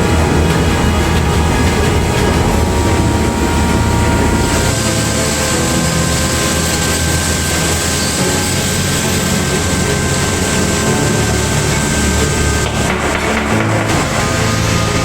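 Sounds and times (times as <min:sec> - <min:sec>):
machinery drone with deep rumble: 0:00.0 - 0:15.0.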